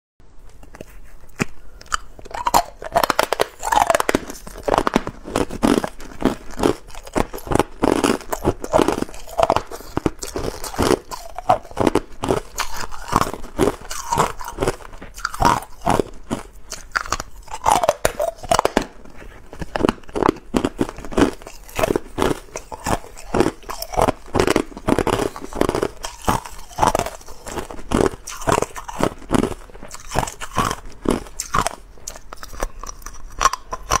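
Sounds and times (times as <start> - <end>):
ice cubes crunching: 1.8 - 34.0.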